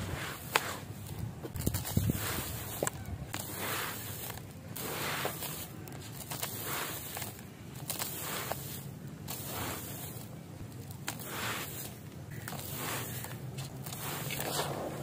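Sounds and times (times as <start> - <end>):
grit sifting down: 0.0 - 10.3, 11.0 - 15.0
concrete chunks crunching: 0.4 - 15.0.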